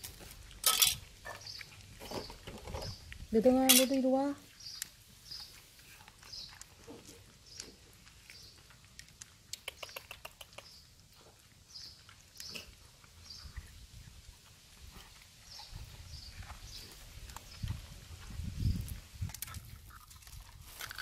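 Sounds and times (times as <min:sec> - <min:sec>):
cats chewing and crunching: 0:00.0 - 0:21.0.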